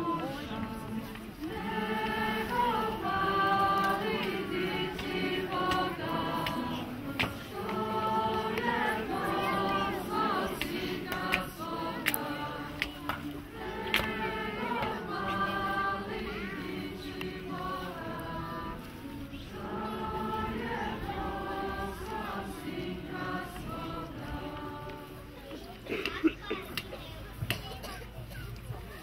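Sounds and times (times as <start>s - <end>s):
choir singing: 0.0s - 25.5s.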